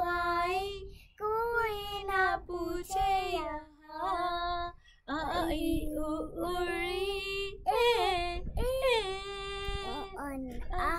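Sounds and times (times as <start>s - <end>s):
woman and girl singing: 0.0s - 10.9s.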